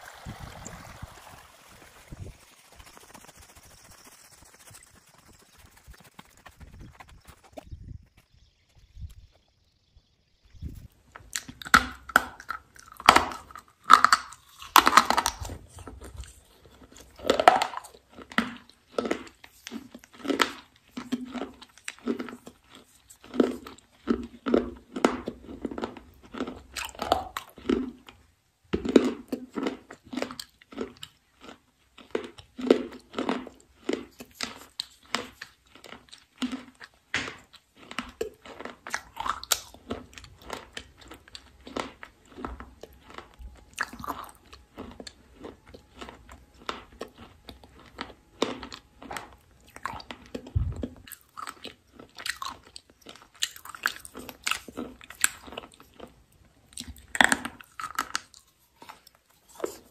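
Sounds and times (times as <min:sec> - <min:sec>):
person biting and chewing crunchy stick: 0:10.7 - 0:59.9.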